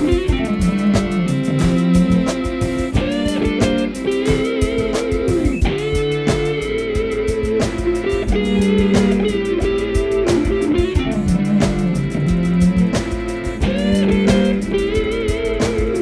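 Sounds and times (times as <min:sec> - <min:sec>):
bass: 0:00.0 - 0:16.0
electric guitar bending lead notes: 0:00.0 - 0:16.0
steady drum beat: 0:00.0 - 0:16.0.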